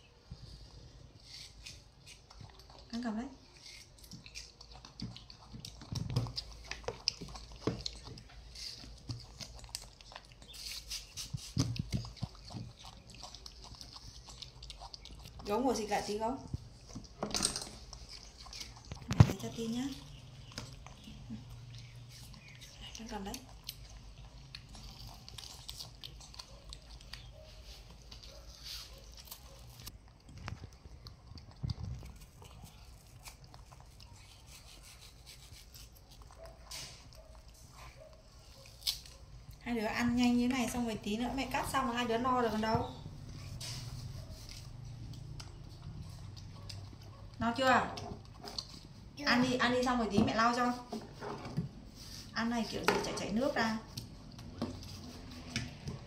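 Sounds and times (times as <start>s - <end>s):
wet chewing of watermelon: 0.0s - 56.0s.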